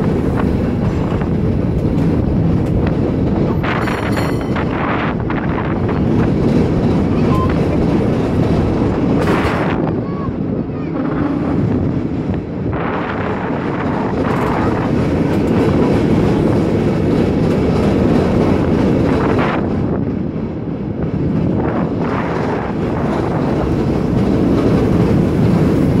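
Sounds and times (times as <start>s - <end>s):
cable car rumbling on rails: 0.0s - 26.0s
wheels rattling on track: 0.0s - 26.0s.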